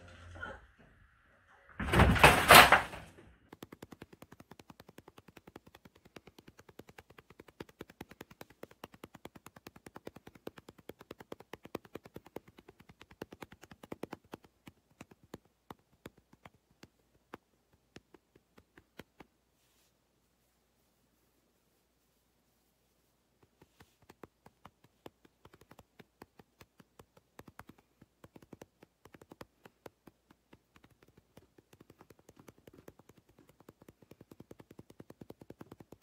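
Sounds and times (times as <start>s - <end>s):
hands patting cat's fur: 3.5s - 36.0s.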